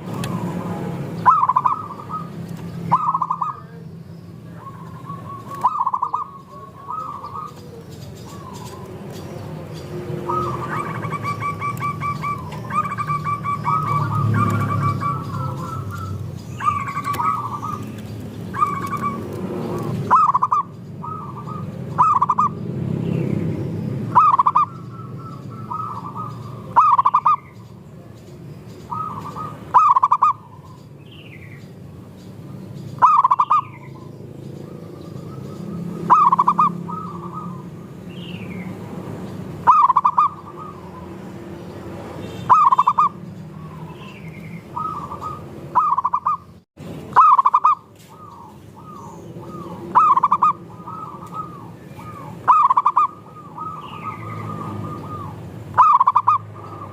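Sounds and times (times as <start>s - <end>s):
doves cooing: 0.0s - 22.8s, 24.0s - 27.6s, 28.8s - 30.9s, 33.0s - 38.0s, 38.7s - 41.6s, 42.4s - 56.9s
small birds chirping: 0.0s - 56.9s.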